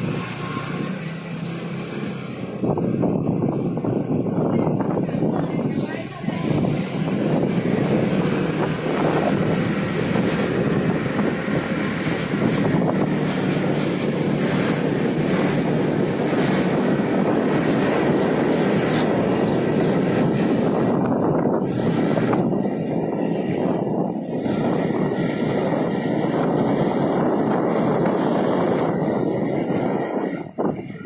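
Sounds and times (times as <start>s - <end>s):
car engine: 0.0s - 31.0s
road rumble: 0.0s - 31.0s
wind buffeting microphone: 0.0s - 31.0s.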